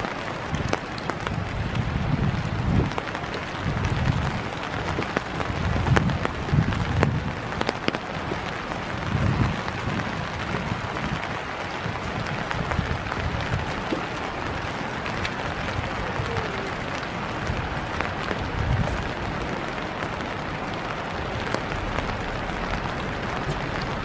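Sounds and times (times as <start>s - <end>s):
rain hissing on wet ground: 0.0s - 24.0s.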